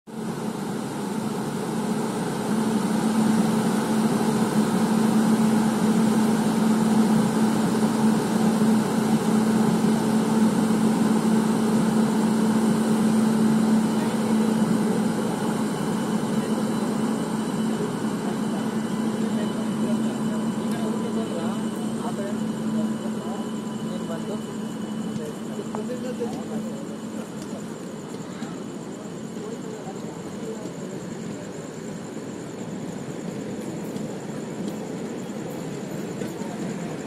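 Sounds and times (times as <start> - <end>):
electric locomotive hum: 0.1 - 37.0
train running noise: 0.1 - 37.0.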